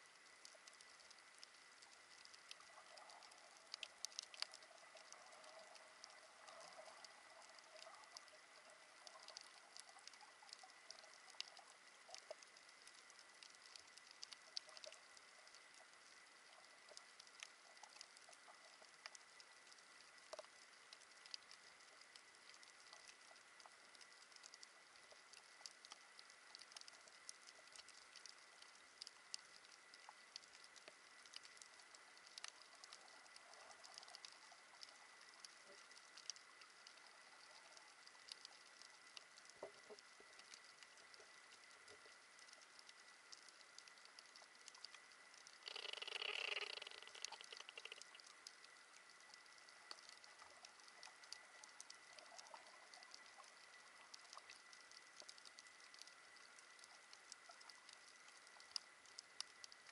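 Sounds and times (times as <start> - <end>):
soft underwater hiss: 0.0 - 59.9.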